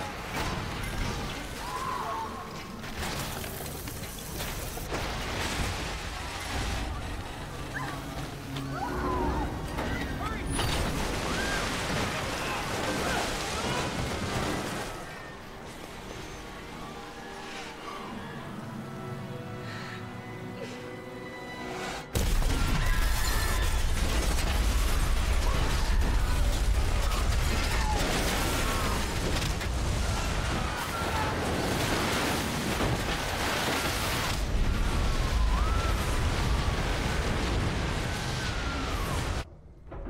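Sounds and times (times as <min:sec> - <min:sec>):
rushing water and debris rumble: 0:00.0 - 0:17.2, 0:22.2 - 0:40.0.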